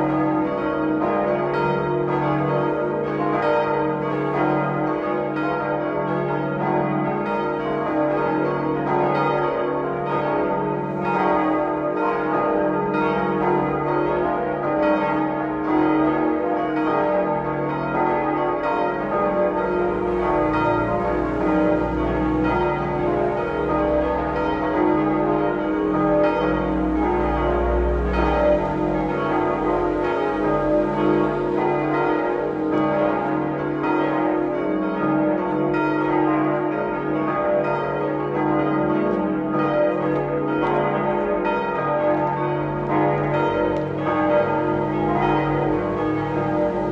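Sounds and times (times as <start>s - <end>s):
church bells ringing: 0.0s - 46.9s.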